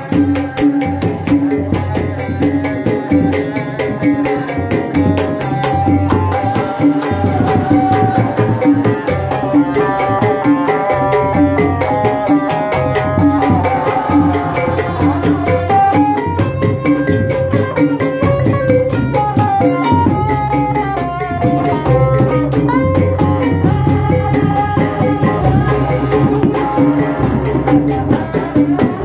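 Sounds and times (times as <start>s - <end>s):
drums beaten in fast rhythm: 0.0s - 29.0s
sustained melody: 1.7s - 29.0s.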